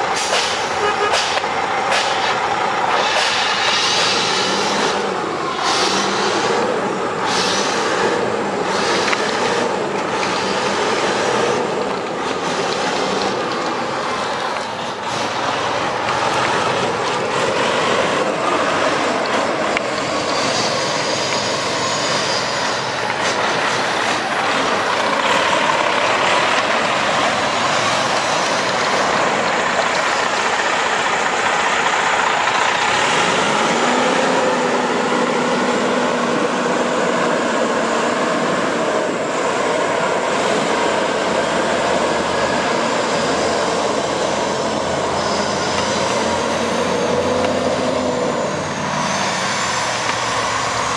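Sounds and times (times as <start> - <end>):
diesel truck engine running: 0.0 - 50.9
loud rushing noise: 0.0 - 50.9.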